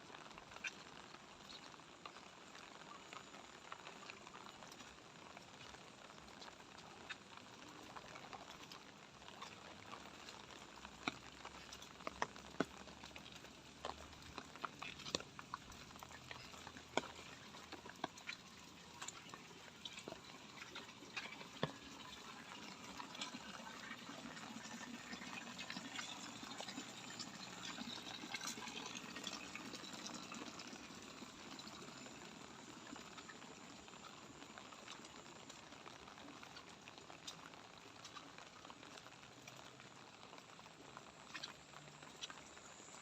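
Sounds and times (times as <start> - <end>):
light rain hiss: 0.0 - 43.0.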